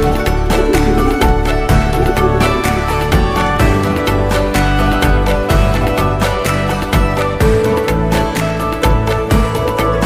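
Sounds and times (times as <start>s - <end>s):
instrumental film music: 0.0s - 10.0s.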